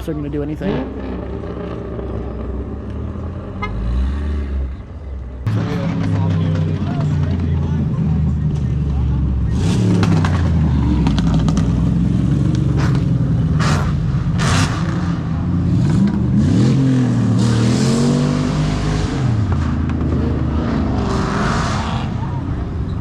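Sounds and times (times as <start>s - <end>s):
car engines rumbling: 0.0s - 23.0s
engine revving: 0.0s - 23.0s.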